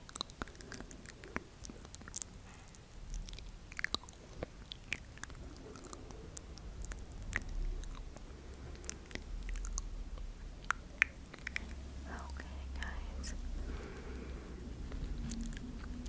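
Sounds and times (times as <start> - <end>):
wet mouth clicks and smacks: 0.0 - 13.0, 14.9 - 16.0.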